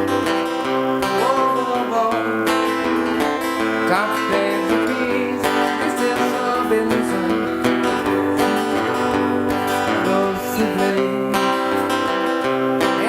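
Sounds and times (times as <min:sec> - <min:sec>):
acoustic guitar strumming chords: 0:00.0 - 0:13.0
guitar sliding melody: 0:00.0 - 0:13.0.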